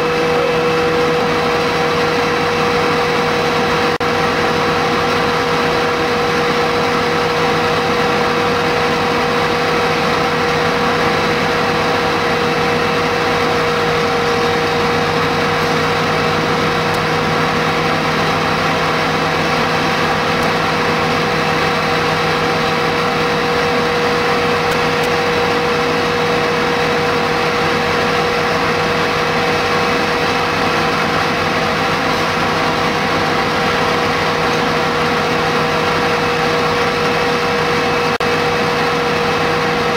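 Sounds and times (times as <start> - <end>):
fire engine drone: 0.0 - 39.9
steady whine: 0.0 - 39.9.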